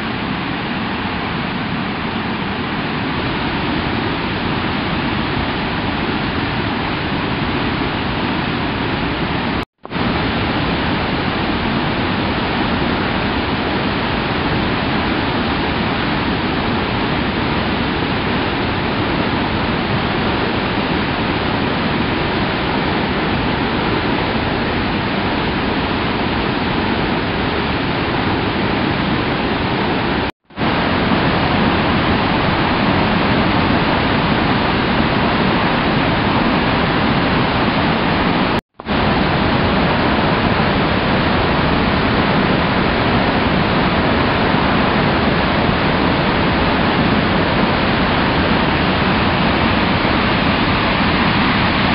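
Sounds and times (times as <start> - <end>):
river rushing through rapids: 0.0 - 51.9.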